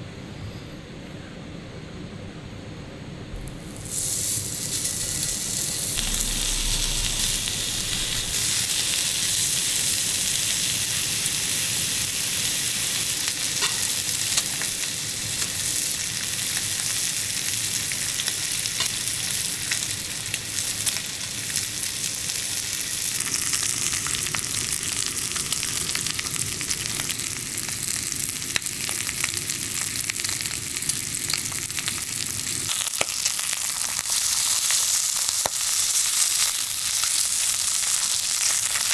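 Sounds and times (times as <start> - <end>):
meat sizzling in a pan: 3.5 - 38.9.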